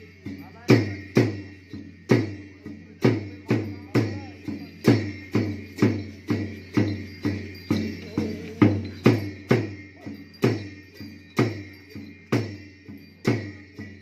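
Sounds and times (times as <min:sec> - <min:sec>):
drum thuds: 0:00.0 - 0:14.0.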